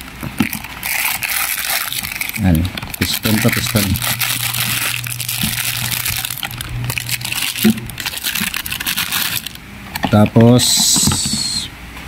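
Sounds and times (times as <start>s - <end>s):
cardboard box rustling: 0.0s - 10.2s
plastic bag crinkling: 0.0s - 10.9s
low steady hum: 0.0s - 12.0s.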